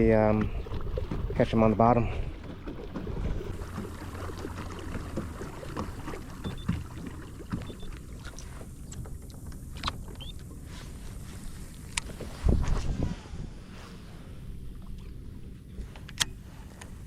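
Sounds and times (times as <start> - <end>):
water sloshing along hull: 0.0 - 17.0.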